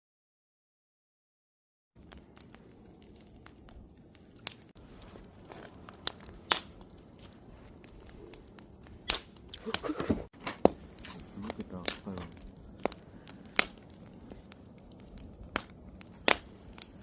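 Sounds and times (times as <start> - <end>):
wood fire crackling: 2.0 - 17.0.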